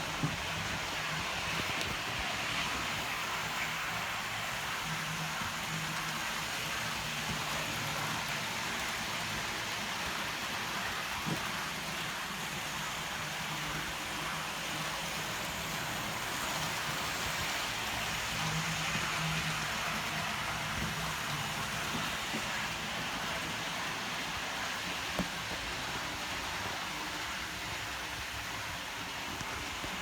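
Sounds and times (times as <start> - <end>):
model train wheels hissing on track: 0.0 - 30.0.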